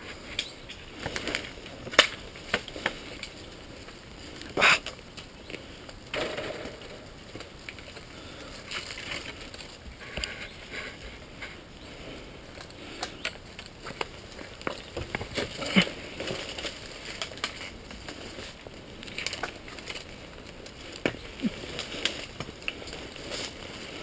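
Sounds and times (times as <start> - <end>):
twigs and brush snapping underfoot: 0.0 - 11.6, 12.4 - 24.0.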